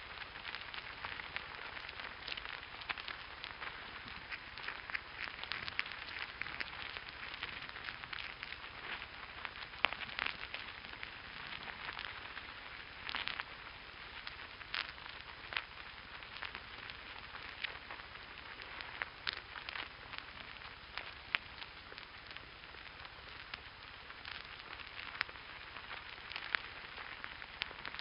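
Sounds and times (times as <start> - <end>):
ants crawling tiny scratchy clicks: 0.0 - 28.0.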